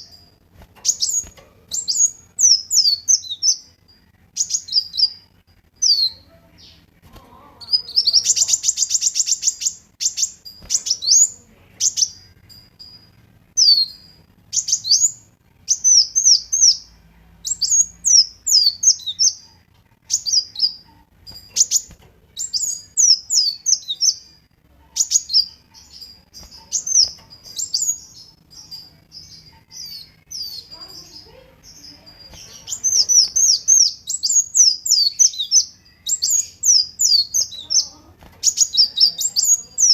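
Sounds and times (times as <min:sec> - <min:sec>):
bird high twittering: 0:00.0 - 0:06.9, 0:07.6 - 0:39.9
bird buzzy trill: 0:00.0 - 0:39.9.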